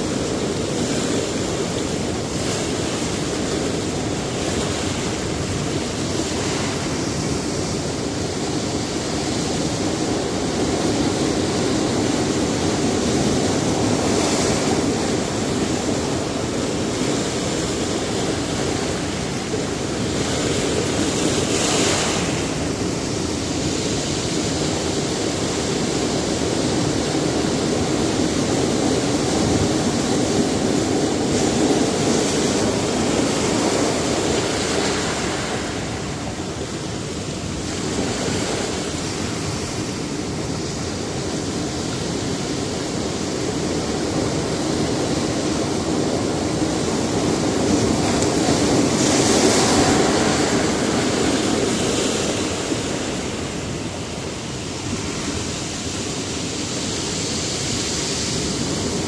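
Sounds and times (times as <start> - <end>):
waves breaking on rocky shore: 0.0 - 59.0.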